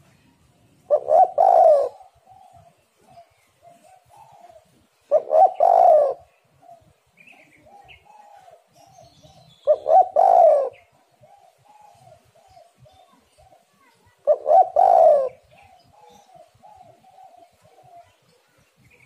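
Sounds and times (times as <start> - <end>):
doves cooing: 0.8 - 18.1.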